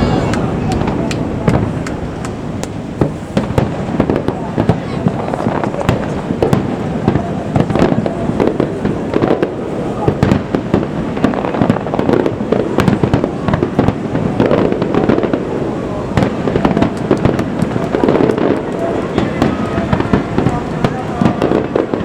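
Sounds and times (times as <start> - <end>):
fireworks bangs and crackle: 0.0 - 22.0.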